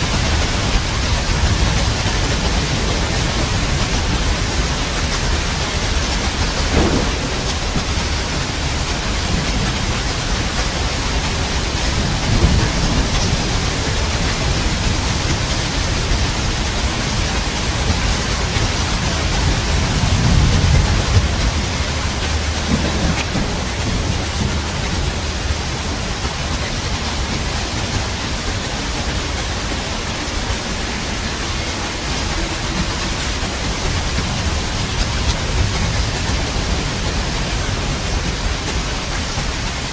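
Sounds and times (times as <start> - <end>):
heavy rain hissing: 0.0 - 39.9
thunder rolling: 0.0 - 39.9.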